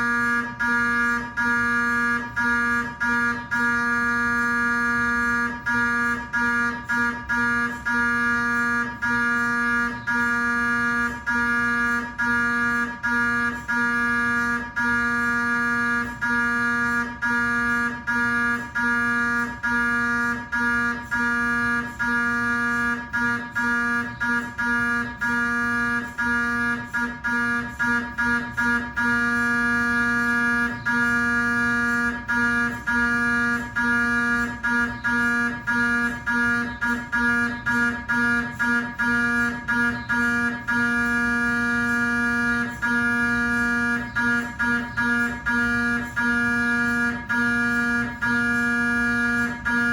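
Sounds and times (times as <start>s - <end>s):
mri scanner pitched drone: 0.0s - 49.9s.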